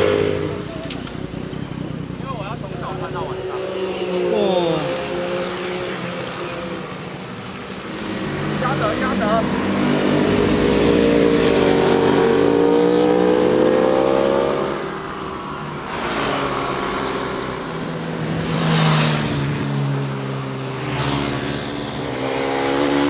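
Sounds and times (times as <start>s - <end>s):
motorcycles passing by: 0.0s - 23.0s.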